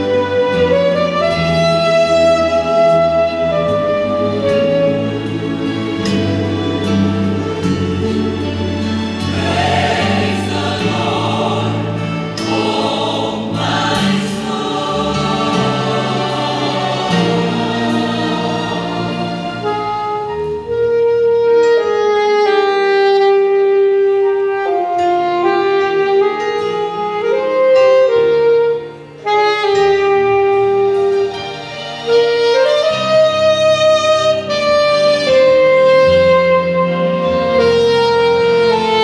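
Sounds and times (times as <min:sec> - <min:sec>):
saxophone slow melody: 0:00.0 - 0:12.8, 0:13.4 - 0:39.0
piano accompaniment: 0:00.0 - 0:39.0.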